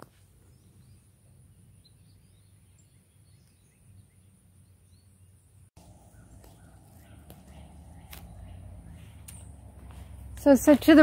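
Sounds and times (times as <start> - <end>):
faint bird chirps: 0.3 - 10.2.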